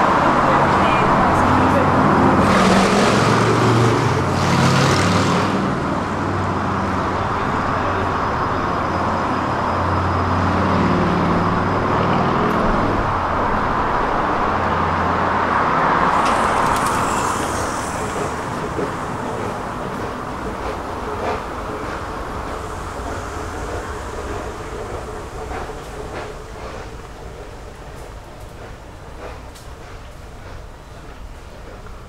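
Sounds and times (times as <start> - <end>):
vehicles passing with hiss: 0.0 - 28.1
road traffic rumble: 0.0 - 32.0.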